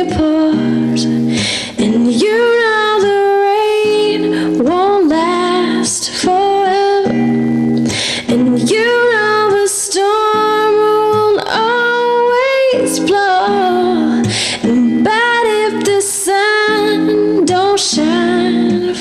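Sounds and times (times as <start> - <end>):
woman singing: 0.0 - 19.0.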